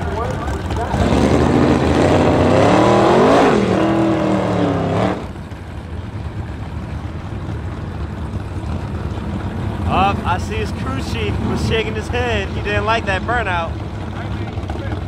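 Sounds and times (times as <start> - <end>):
crowd and track noise: 0.0 - 15.0
drag-race car engine at full throttle: 0.0 - 15.0.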